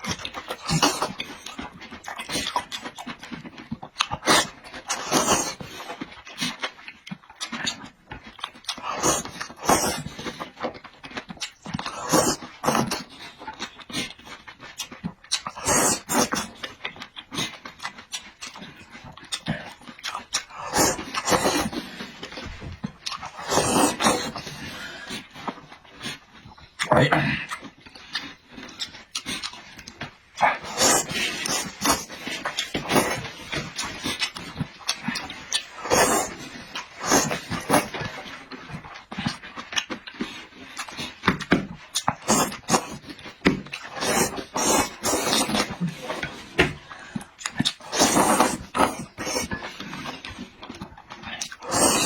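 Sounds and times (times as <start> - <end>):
person chewing and smacking: 0.0 - 52.0.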